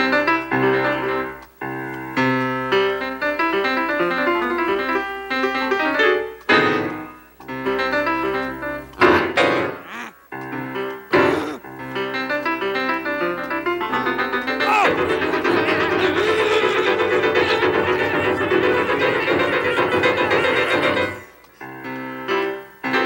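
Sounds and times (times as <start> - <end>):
piano playing chords and runs: 0.0 - 23.0.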